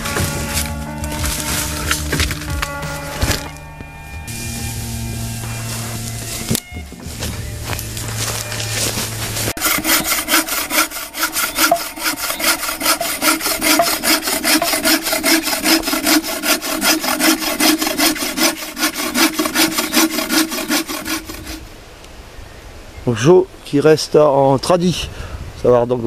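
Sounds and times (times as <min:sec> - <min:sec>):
bow saw cutting wood: 0:00.0 - 0:03.6, 0:04.3 - 0:21.7.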